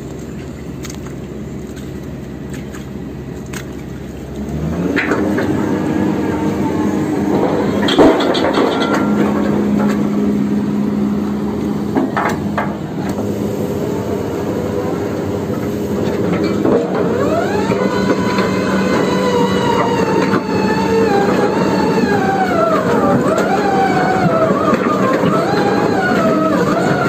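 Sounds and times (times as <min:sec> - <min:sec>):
drilling rig engine drone: 0:00.0 - 0:27.0
metallic whine: 0:04.0 - 0:27.0.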